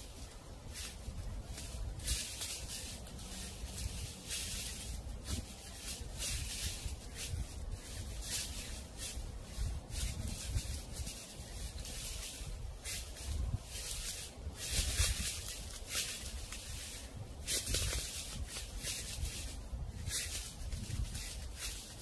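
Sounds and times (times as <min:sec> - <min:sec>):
dry leaves rustling and crackling: 0:00.0 - 0:22.0
low rumble of wind: 0:00.0 - 0:22.0.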